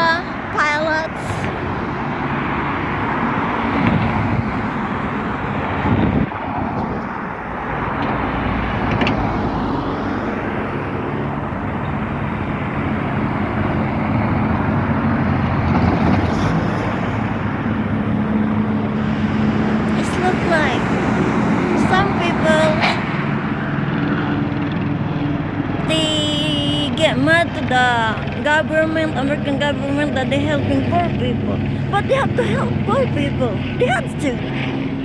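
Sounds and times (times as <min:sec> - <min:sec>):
helicopter hovering: 0:00.0 - 0:35.0
road traffic: 0:00.0 - 0:35.0.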